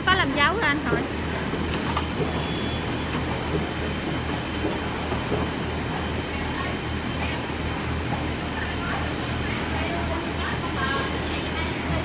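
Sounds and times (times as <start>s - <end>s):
printing press mechanical rumble: 0.0s - 12.0s.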